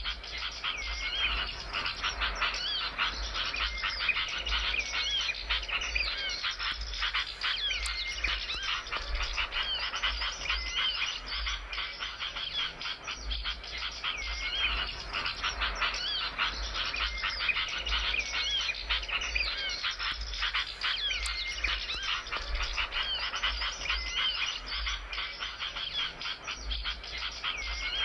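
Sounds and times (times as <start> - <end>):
looping whistles: 0.0 - 28.0
small songbird chattering: 0.0 - 28.0.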